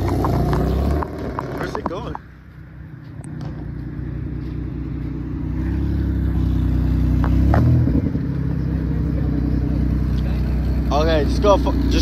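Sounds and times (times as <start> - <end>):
car engine passing slowly: 0.0 - 12.0.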